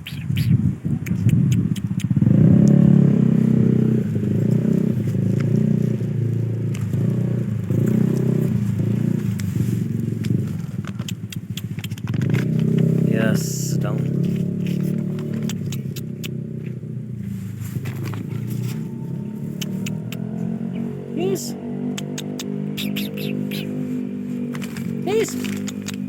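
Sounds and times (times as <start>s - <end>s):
motorcycle engine idling: 1.4s - 26.0s.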